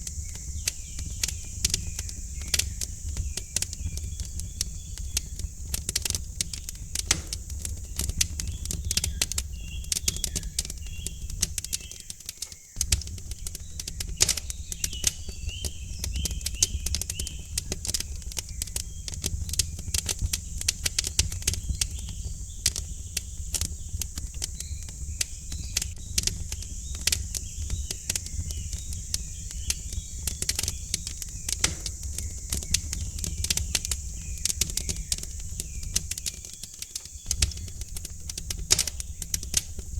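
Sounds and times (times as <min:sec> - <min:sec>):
small birds chirping faintly: 0:00.0 - 0:39.9
wood fire crackling and popping: 0:00.0 - 0:39.9.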